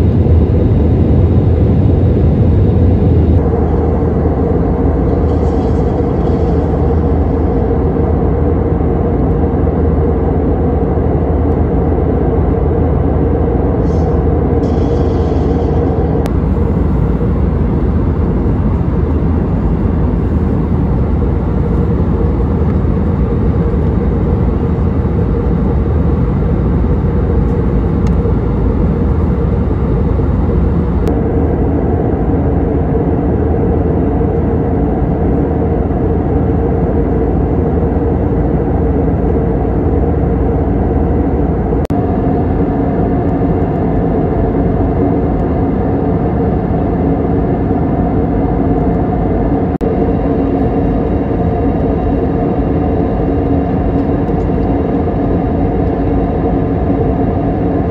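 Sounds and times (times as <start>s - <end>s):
airplane cabin drone: 0.0s - 57.9s
steady low hum: 0.0s - 57.9s.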